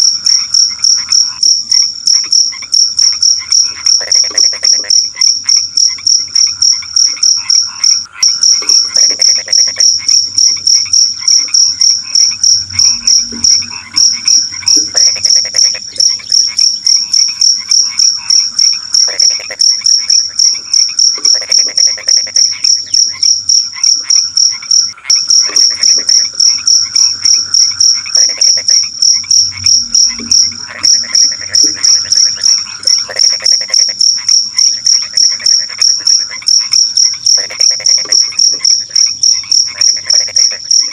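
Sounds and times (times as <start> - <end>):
cricket chirping: 0.0 - 40.9
frogs croaking: 0.0 - 40.9.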